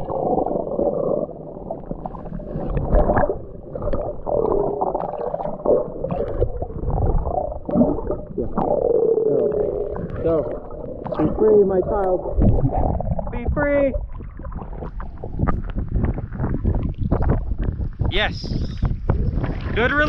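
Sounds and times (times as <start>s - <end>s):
low underwater rumbling: 0.0s - 20.0s
water sloshing and gurgling: 0.0s - 20.0s.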